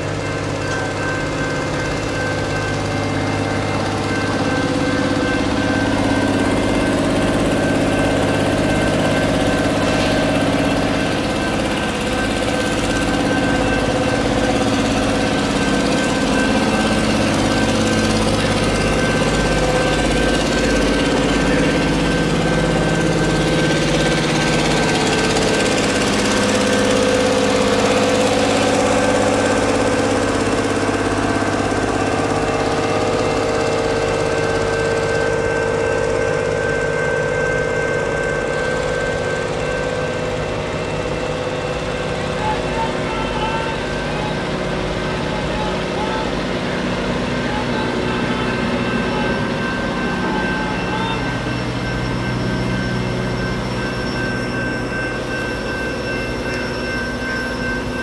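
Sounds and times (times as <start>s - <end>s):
engine running: 0.0s - 58.0s
thin high tone: 0.0s - 58.0s
train rolling past: 0.0s - 58.0s.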